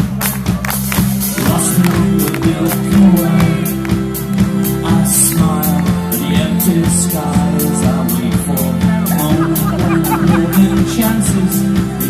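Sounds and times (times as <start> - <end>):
bass line: 0.0 - 12.0
electric guitars: 0.0 - 12.0.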